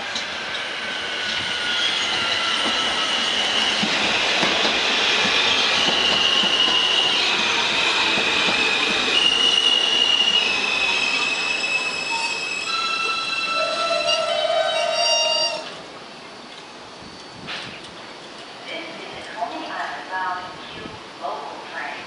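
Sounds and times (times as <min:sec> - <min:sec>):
train wheels squealing on rails: 0:00.0 - 0:18.4
rumble of passing train cars: 0:00.0 - 0:22.0.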